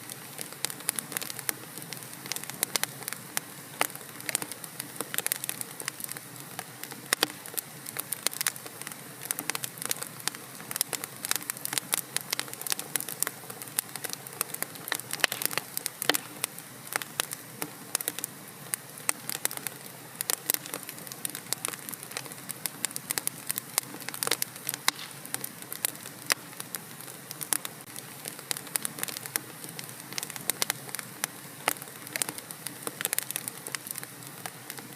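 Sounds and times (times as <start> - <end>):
soft steady hiss: 0.0 - 34.9
wood fire crackling and popping: 0.0 - 34.9.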